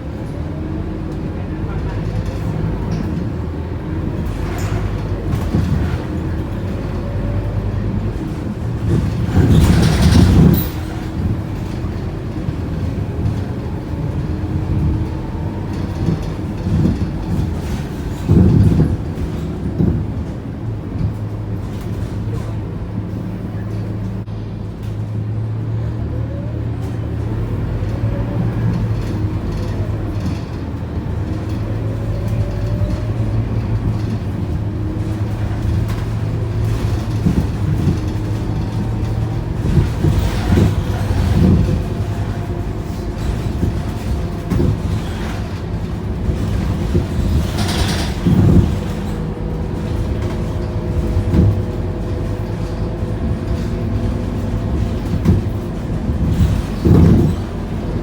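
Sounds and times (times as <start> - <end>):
bus body knocks and thumps: 0.0 - 58.0
bus diesel engine hum: 0.0 - 58.0.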